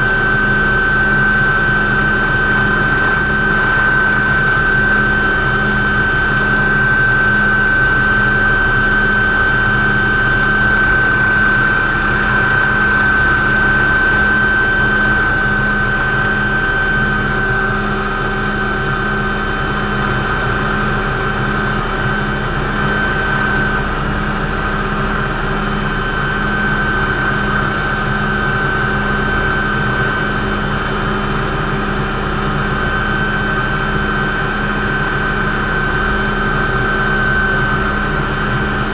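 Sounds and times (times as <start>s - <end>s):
helicopter engine and rotor drone: 0.0s - 38.9s
helicopter turbine whine: 0.0s - 38.9s.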